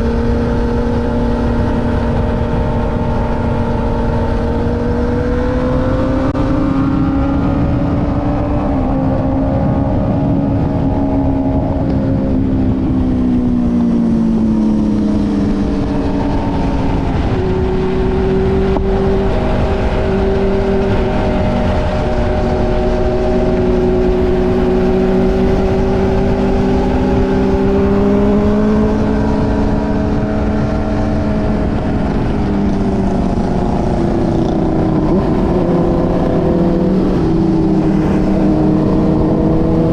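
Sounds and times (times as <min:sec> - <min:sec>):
low wind rumble: 0:00.0 - 0:39.9
motorcycle engine running: 0:00.0 - 0:39.9.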